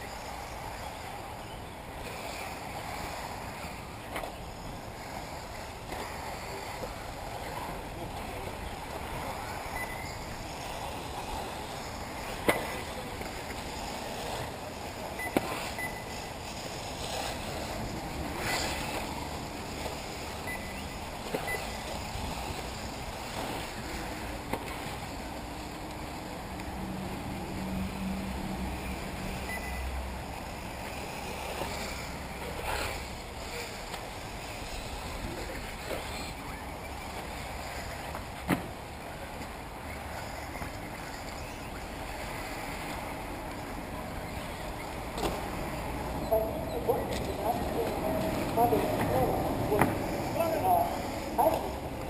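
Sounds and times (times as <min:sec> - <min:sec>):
rc cars racing rushing noise: 0:00.0 - 0:52.0.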